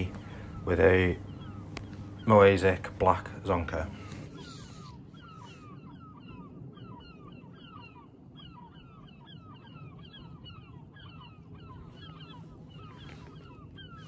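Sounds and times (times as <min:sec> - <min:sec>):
birds calling: 0:00.0 - 0:14.0
low background rumble: 0:00.0 - 0:14.0.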